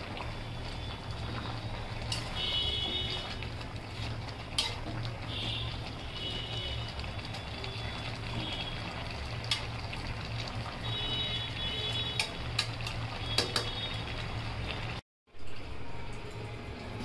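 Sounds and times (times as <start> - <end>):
curry simmering in a pan: 0.0 - 16.7.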